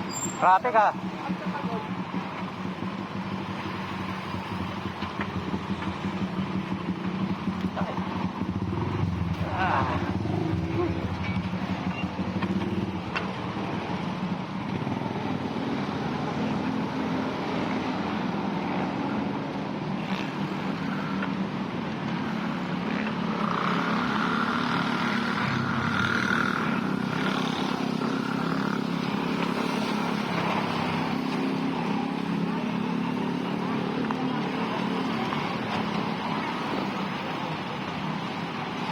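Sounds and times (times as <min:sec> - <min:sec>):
vehicle engines running: 0:00.0 - 0:38.9.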